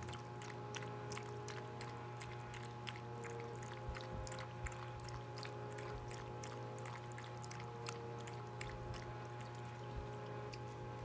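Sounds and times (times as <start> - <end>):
puppy lapping water: 0.0 - 11.0.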